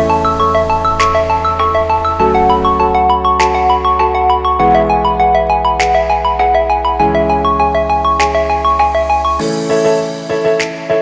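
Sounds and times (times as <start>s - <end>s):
background music with mallet notes: 0.0s - 11.0s.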